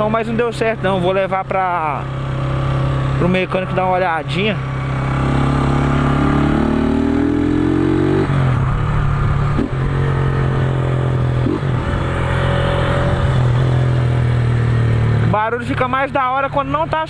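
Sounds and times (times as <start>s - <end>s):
motorcycle engine accelerating: 0.0s - 16.9s.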